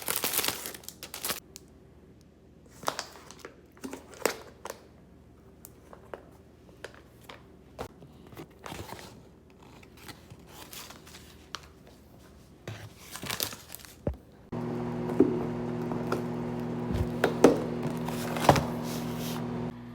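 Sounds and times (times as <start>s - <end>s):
packaging rustling and crinkling: 0.0s - 1.4s, 2.7s - 4.9s, 5.7s - 14.4s, 15.1s - 19.4s.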